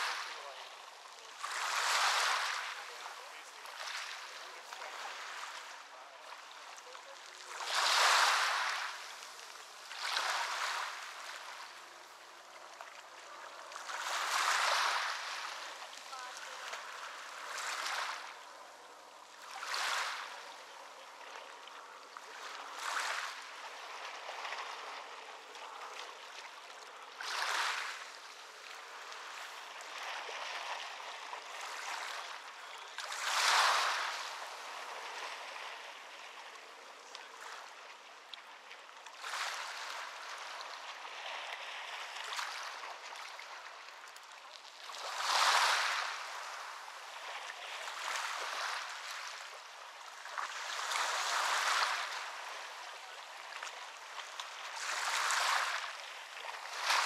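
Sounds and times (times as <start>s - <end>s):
waves breaking on beach: 0.0s - 57.0s.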